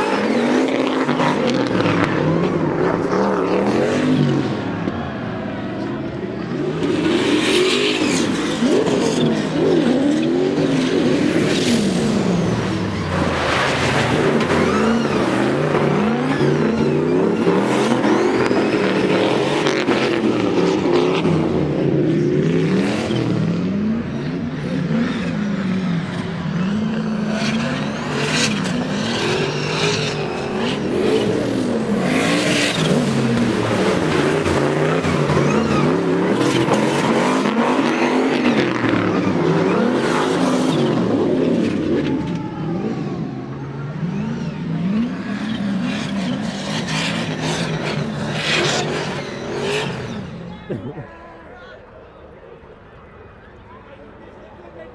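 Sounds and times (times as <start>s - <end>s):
drift car engines revving: 0.0s - 54.9s.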